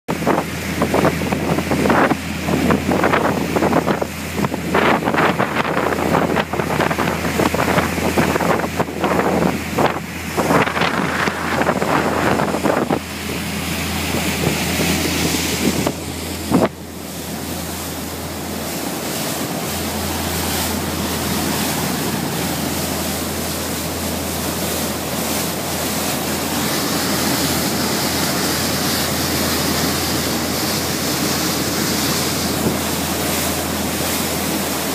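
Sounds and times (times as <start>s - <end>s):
boat engine drone: 0.1s - 34.9s
wind buffeting microphone: 0.1s - 34.9s
wake spray rushing: 0.2s - 34.9s.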